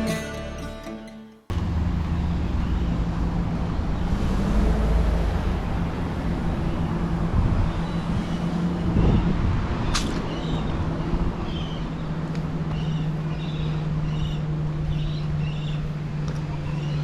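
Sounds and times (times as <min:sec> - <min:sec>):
road noise hum: 0:01.5 - 0:17.0
vehicle engine rumbling: 0:01.5 - 0:17.0.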